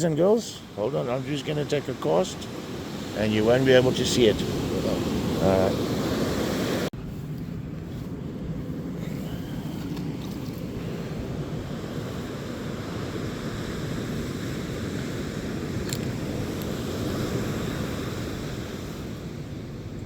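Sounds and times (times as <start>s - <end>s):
ocean surf washing ashore: 0.0s - 20.0s
wind buffeting microphone: 0.2s - 20.0s.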